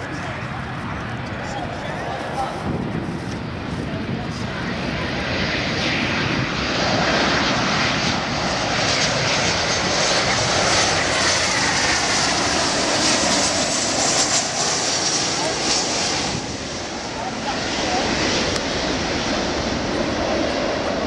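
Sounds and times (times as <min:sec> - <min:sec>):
jet airliner passing low: 0:00.0 - 0:21.0
jet engine whine: 0:00.0 - 0:21.0.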